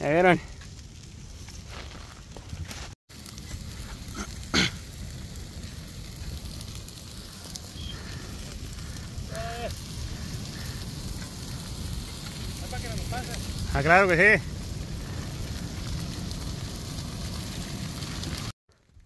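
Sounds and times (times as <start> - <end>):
flames crackling: 0.0 - 19.0.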